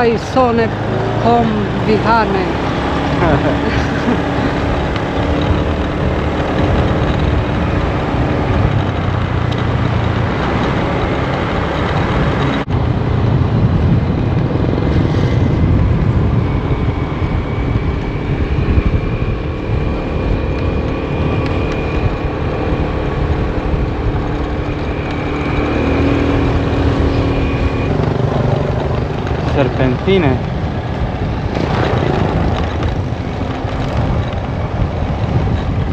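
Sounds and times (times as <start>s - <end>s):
scooter engine drone: 0.0s - 35.9s
wind rush on microphone: 0.0s - 35.9s.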